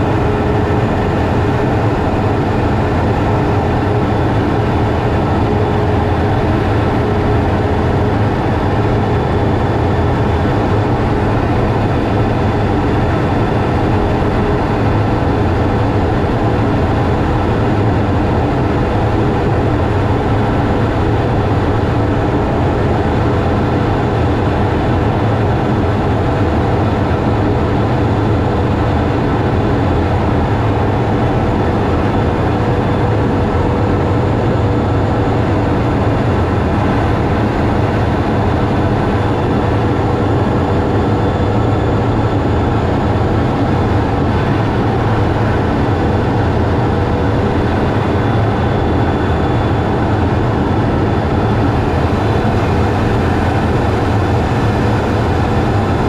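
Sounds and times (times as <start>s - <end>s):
jet engine and airflow rumble: 0.0s - 56.0s.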